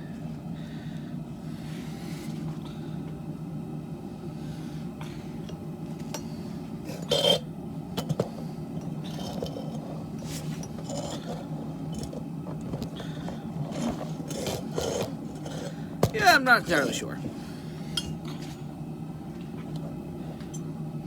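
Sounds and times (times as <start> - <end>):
forge burner roaring: 0.0 - 21.0.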